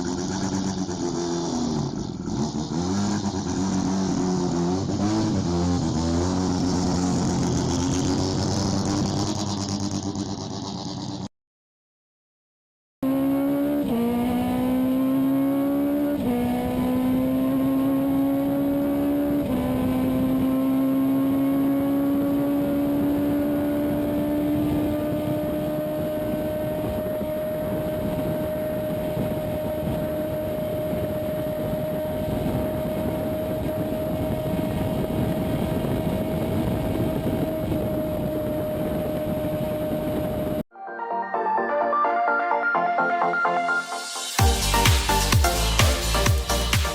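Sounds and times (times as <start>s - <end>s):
car engine accelerating: 0.0s - 11.3s, 13.0s - 40.6s, 44.4s - 46.9s
road and wind noise: 0.0s - 11.3s, 13.0s - 40.6s.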